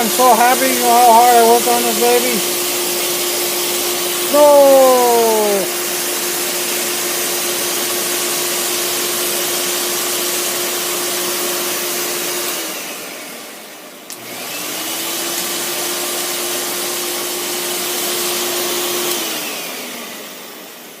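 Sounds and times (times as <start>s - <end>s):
snow machine hum and hiss: 0.0s - 20.8s.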